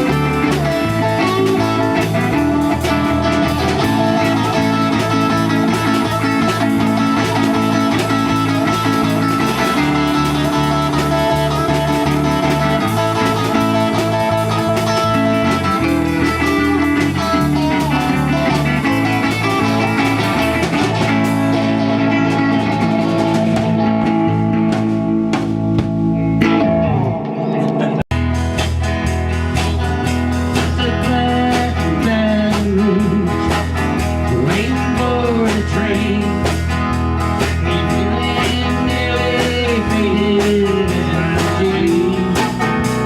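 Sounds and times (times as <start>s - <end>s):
blues-rock band playing: 0.0s - 43.0s
electric guitar: 0.0s - 43.0s.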